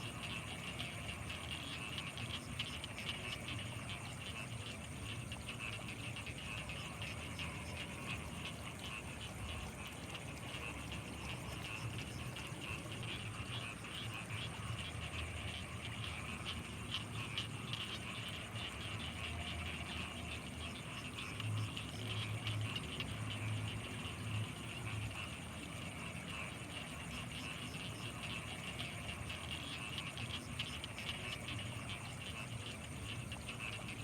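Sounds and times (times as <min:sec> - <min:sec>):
frogs and insects chorus: 0:00.0 - 0:34.0.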